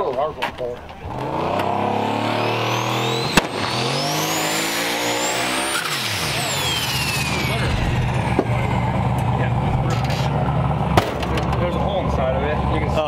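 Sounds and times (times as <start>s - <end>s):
turbocharged car engine running: 1.0s - 13.0s.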